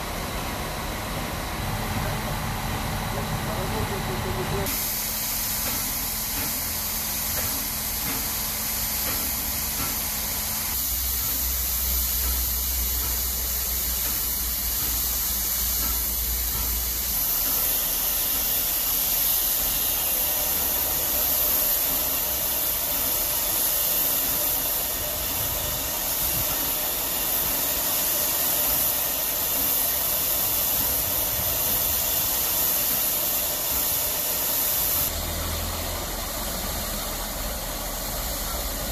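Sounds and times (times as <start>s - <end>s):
steam hissing from locomotive: 0.0s - 38.9s.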